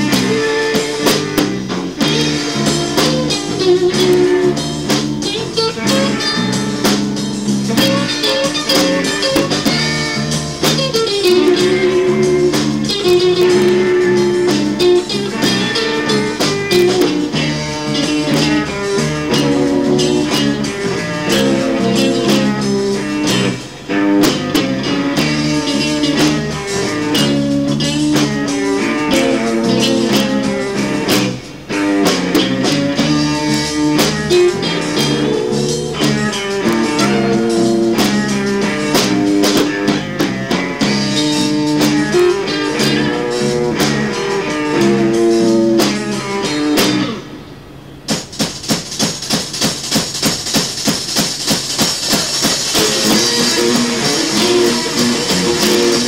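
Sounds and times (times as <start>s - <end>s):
drums: 0.0s - 56.0s
guitar lines: 0.0s - 56.0s.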